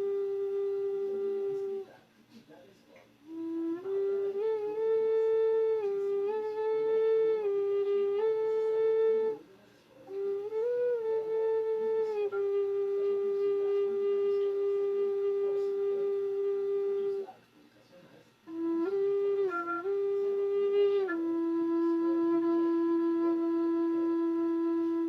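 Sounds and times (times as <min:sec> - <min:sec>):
wind instrument held notes: 0:00.0 - 0:02.0, 0:03.2 - 0:17.5, 0:18.4 - 0:25.0.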